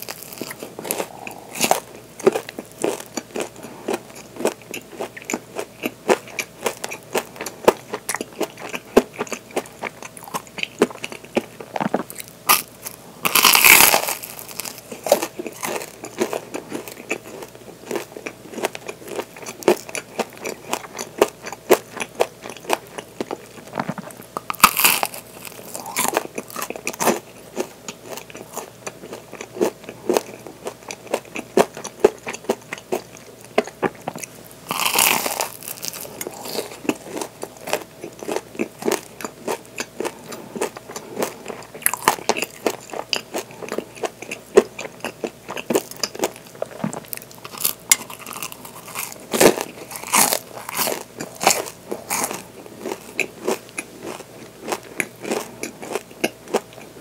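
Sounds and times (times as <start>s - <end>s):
crunchy chewing: 0.0s - 57.0s.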